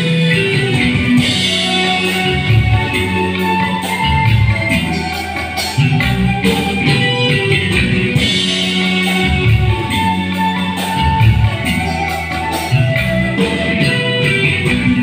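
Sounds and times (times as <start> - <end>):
bass guitar: 0.0 - 15.0
drums: 0.0 - 15.0
electric guitar: 0.0 - 15.0
keyboards: 0.0 - 15.0.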